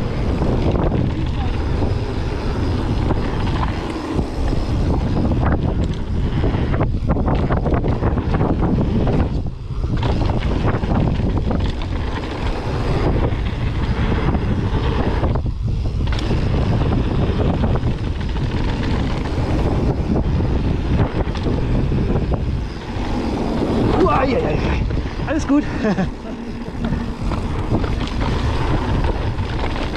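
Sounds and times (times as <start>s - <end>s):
bike knocking and rattling: 0.0s - 29.9s
tyres rumbling on dirt: 0.0s - 29.9s
wind rushing over microphone: 0.0s - 29.9s.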